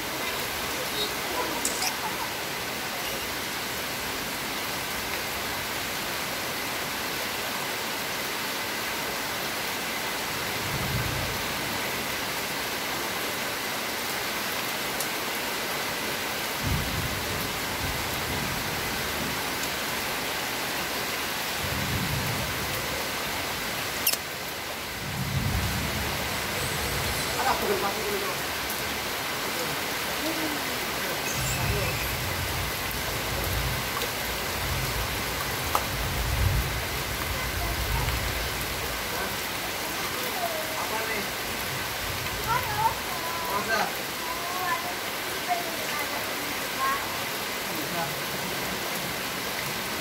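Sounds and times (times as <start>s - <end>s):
steady rain hissing: 0.0s - 50.0s.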